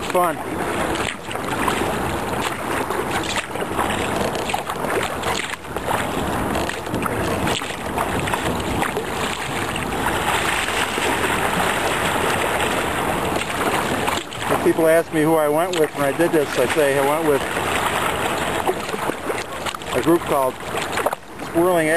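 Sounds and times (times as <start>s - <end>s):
river water rushing and splashing: 0.0s - 21.9s.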